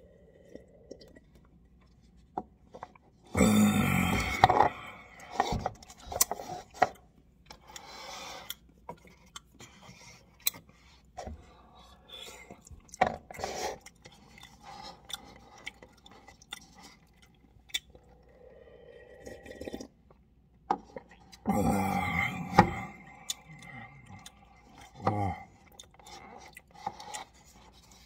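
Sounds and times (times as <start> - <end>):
person chewing noodles: 0.0 - 20.2, 20.9 - 28.0.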